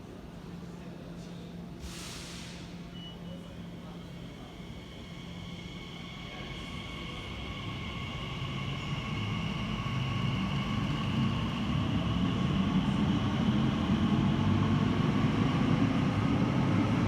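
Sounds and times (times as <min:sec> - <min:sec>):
train rumble in tunnel: 0:00.0 - 0:17.0.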